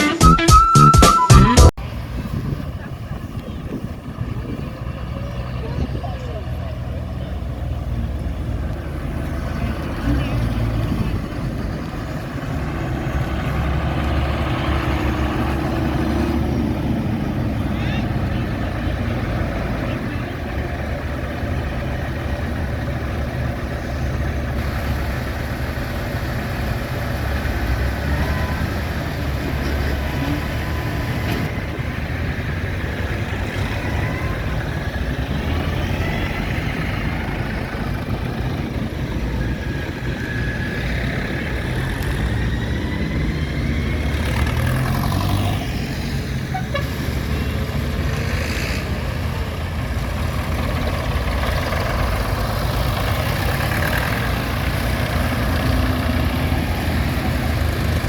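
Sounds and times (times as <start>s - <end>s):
engines rumbling and revving: 0.0s - 58.0s.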